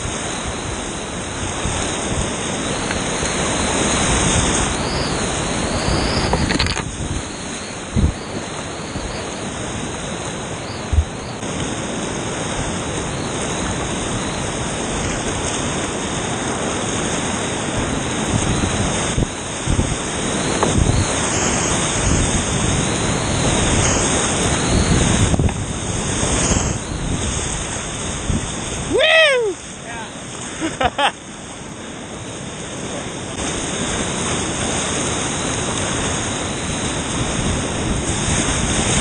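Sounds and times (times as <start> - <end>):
whitewater rushing: 0.0 - 39.0.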